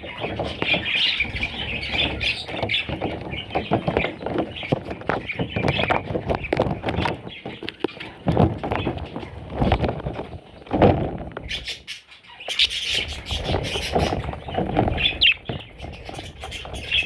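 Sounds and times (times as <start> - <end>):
rapid tapping and knocking: 0.0 - 11.8, 12.7 - 17.0.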